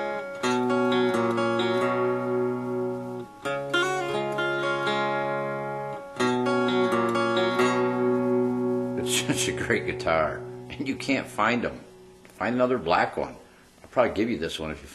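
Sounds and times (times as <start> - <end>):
guitar chords strummed: 0.0 - 13.6.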